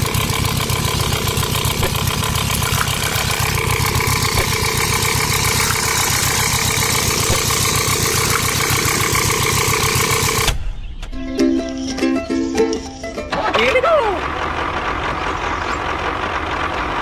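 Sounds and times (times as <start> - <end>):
engine idling: 0.0 - 10.6, 13.1 - 17.0.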